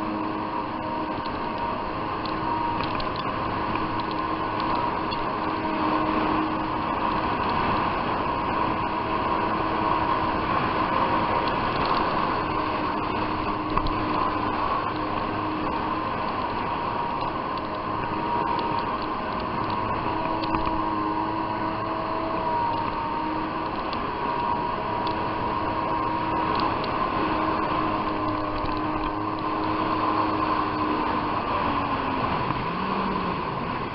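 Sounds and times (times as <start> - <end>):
jet ski engine running: 0.0 - 33.9.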